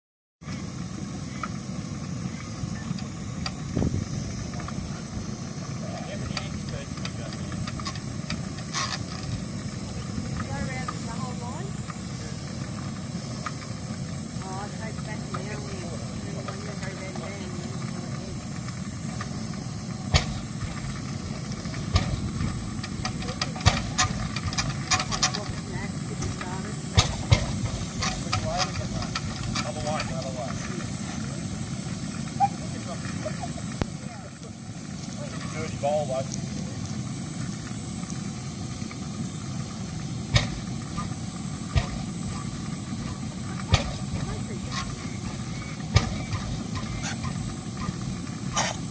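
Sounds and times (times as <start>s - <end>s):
hissing rumble: 0.4s - 48.9s
engine bangs: 2.5s - 33.9s, 40.2s - 48.9s.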